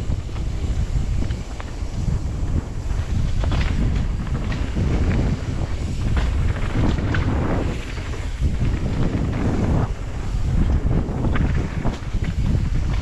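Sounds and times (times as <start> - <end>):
bike clicks and rattles: 0.0 - 13.0
wind rushing over microphone: 0.0 - 13.0.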